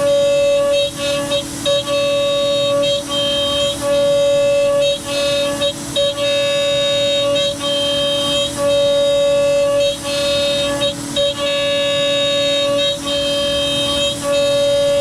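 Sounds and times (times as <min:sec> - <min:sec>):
router spindle whine: 0:00.0 - 0:15.0
vacuum cleaner running: 0:00.0 - 0:15.0.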